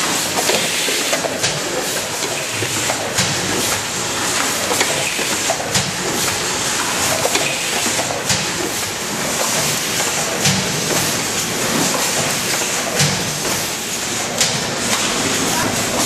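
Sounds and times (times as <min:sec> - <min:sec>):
conveyor machinery rattling: 0:00.0 - 0:16.0.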